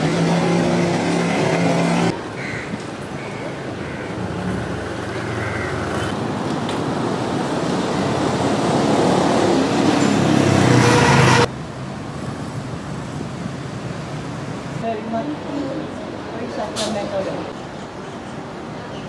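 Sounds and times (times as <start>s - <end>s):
road vehicle noise: 0.0s - 19.0s.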